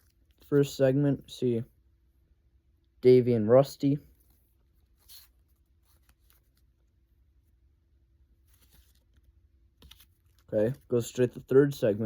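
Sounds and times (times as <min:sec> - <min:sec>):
faint rustles of cards handled: 0:00.0 - 0:01.7, 0:03.8 - 0:12.0.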